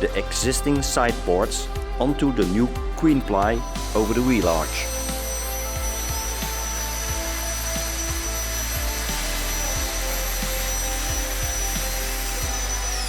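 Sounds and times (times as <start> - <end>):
power tool cutting plywood: 2.4 - 13.0.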